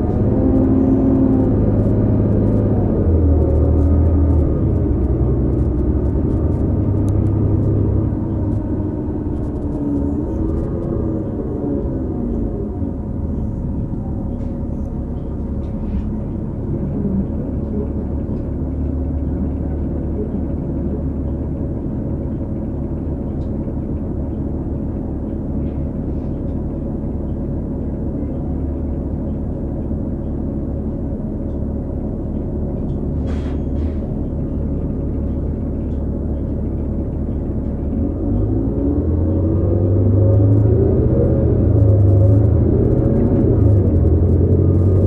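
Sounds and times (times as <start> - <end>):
steady whining tone: 0.0 - 25.6, 34.2 - 45.0
bus engine rumble: 0.0 - 45.0.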